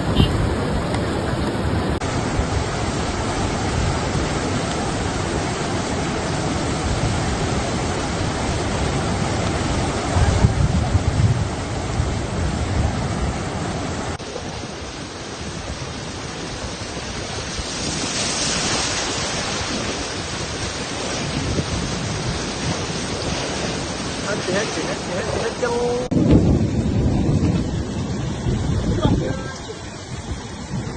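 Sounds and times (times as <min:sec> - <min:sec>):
floodwater rushing: 0:00.0 - 0:30.9.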